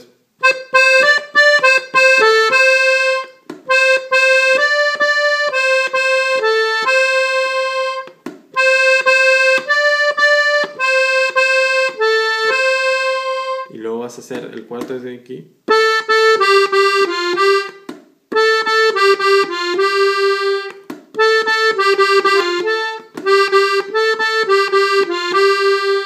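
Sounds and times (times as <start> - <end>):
button accordion melody: 0.0 - 13.8, 15.7 - 26.0.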